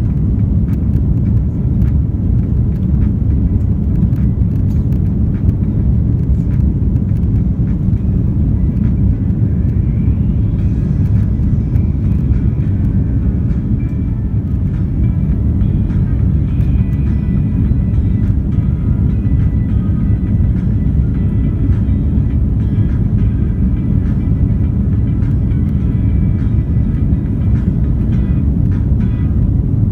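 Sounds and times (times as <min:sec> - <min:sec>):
airliner cabin engine rumble: 0:00.0 - 0:29.9.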